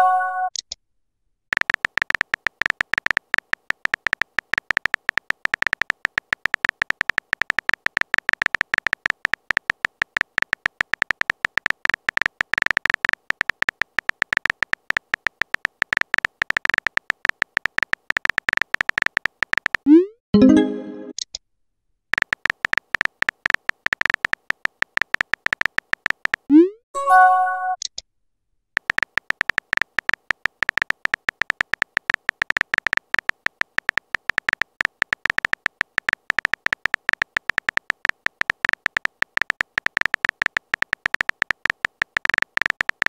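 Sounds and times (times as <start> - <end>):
phone keyboard typing clicks: 1.5 - 19.9, 22.1 - 26.5, 28.8 - 43.0.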